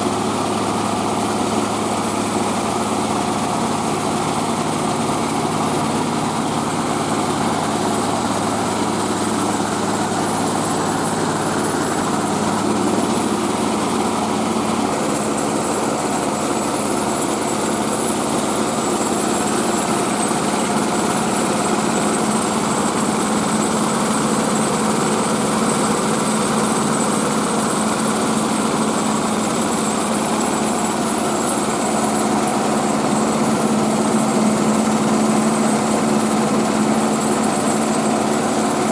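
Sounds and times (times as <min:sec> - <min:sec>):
rice-milling machine running: 0:00.0 - 0:38.9.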